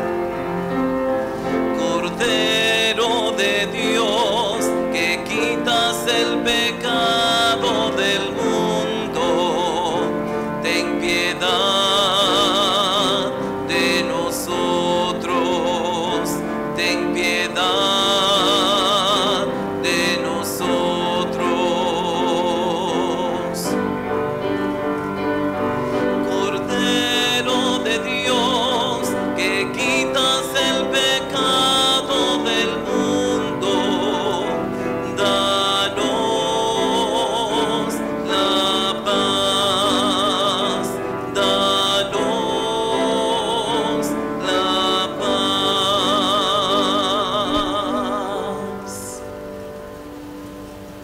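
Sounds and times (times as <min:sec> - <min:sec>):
operatic solo singing: 0:00.0 - 0:24.1, 0:25.9 - 0:49.4
piano accompaniment: 0:00.0 - 0:51.0.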